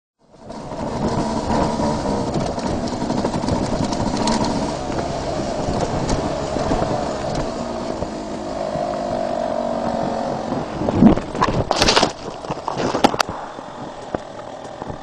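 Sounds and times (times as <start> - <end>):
two-stroke motorbike engine running: 0.2 - 15.0.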